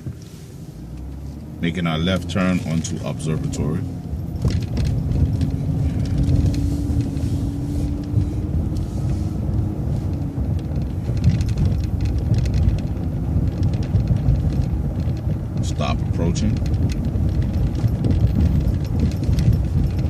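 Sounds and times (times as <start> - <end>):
bus engine and road rumble: 0.0 - 20.0
light rattles: 0.1 - 20.0.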